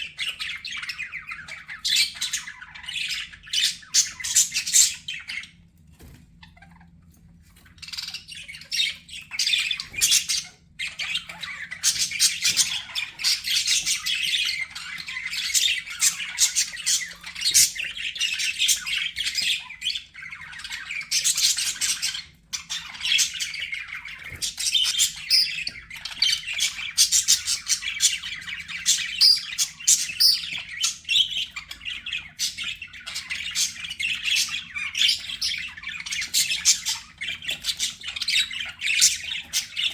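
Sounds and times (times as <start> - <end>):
budgerigars chattering: 0.0 - 5.6, 7.6 - 39.9.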